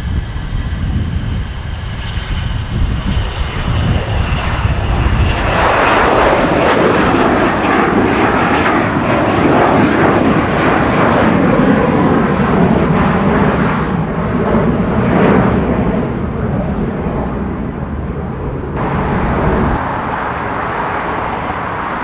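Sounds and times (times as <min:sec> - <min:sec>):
aircraft engines running: 0:00.0 - 0:22.0.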